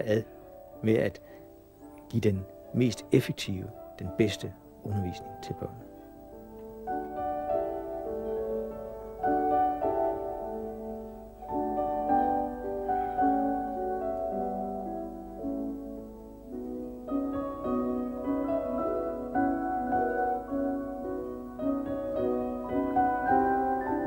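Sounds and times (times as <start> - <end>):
instrumental music with held notes: 0.0 - 24.0.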